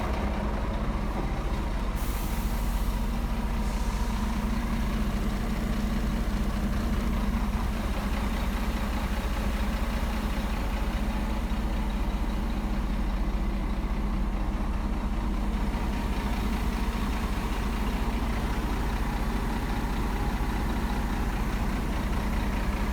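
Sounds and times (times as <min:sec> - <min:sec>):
diesel truck engine idling: 0:00.0 - 0:22.9.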